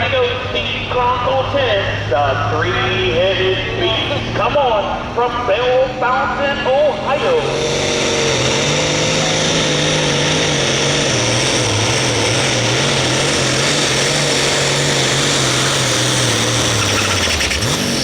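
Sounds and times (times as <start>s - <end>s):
high whine: 0.0s - 17.9s
tractor engine running under load: 0.0s - 18.0s.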